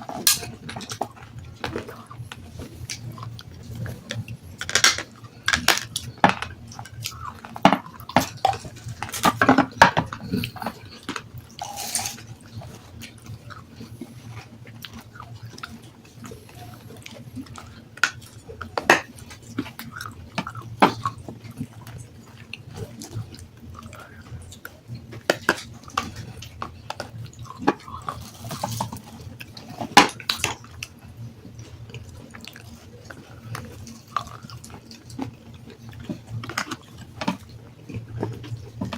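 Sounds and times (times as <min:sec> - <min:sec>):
crunching and chewing stone: 0:00.0 - 0:38.9.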